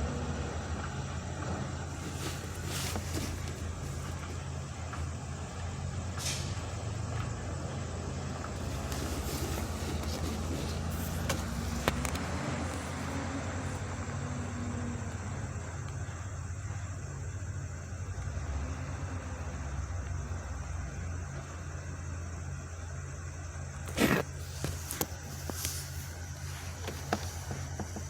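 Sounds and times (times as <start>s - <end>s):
truck engine running: 0.0s - 22.6s, 23.5s - 28.0s.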